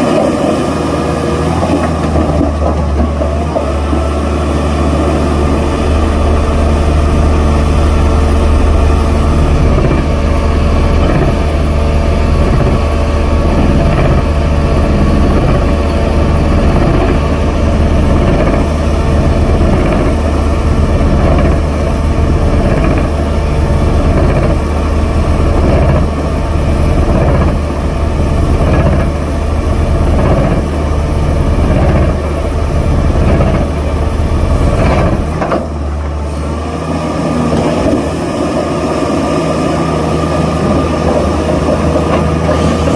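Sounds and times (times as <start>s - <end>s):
hydraulic breaker hammering rock: 0.0s - 36.5s, 37.1s - 42.9s
diesel engine running under load: 0.0s - 42.9s.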